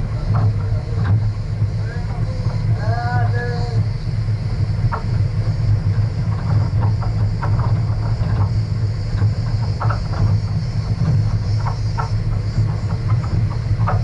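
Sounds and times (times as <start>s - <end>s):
rattles and knocks: 0.0s - 14.0s
vehicle rumbling on dirt road: 0.0s - 14.0s.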